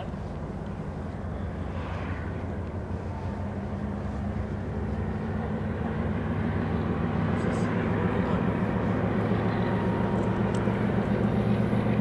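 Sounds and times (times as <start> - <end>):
diesel locomotives droning: 0.0 - 12.0.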